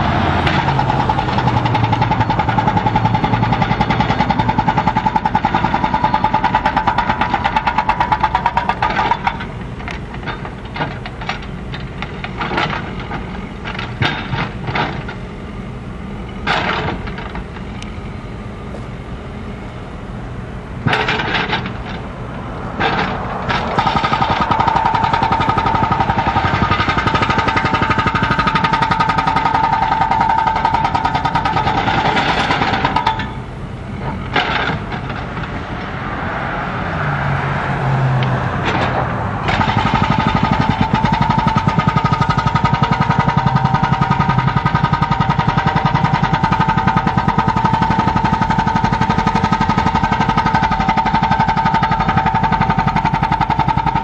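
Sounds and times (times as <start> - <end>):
hydraulic breaker pounding concrete: 0.0 - 15.3, 16.2 - 17.8, 20.8 - 35.9, 38.6 - 54.0
loader engine running: 0.0 - 54.0.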